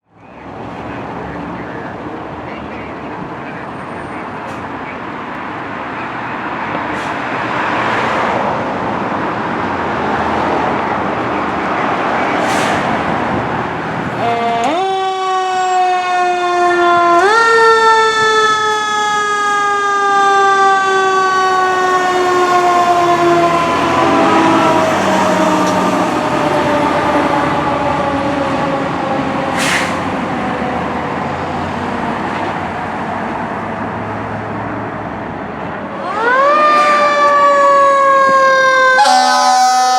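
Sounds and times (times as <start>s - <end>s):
fire engine running: 0.0s - 39.9s.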